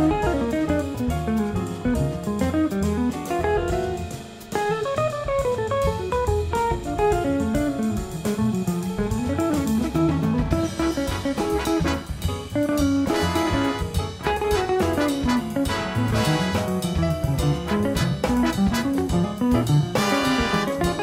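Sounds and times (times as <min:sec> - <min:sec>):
drums: 0:00.0 - 0:21.0
instrumental jazz guitar melody: 0:00.0 - 0:21.0.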